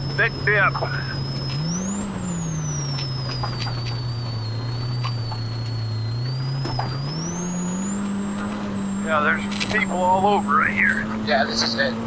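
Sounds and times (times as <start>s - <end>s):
high engine whine: 0.0s - 12.0s
off-road vehicle engine running: 0.0s - 12.0s.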